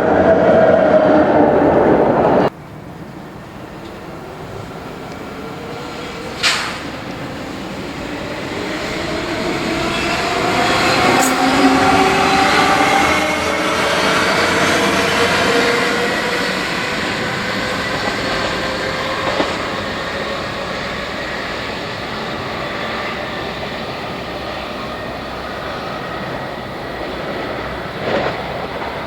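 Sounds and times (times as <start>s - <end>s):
train rumbling along tracks: 0.0s - 29.0s.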